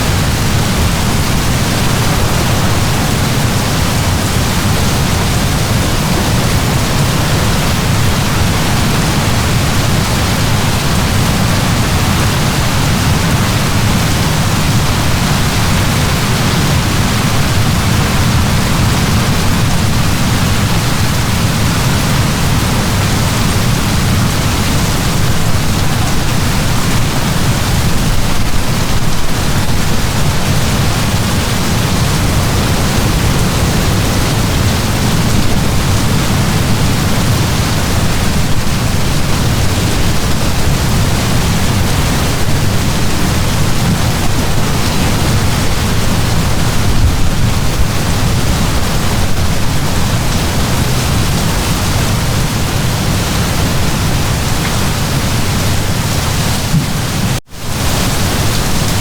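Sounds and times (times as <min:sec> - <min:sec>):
heavy rain downpour: 0:00.0 - 0:59.0.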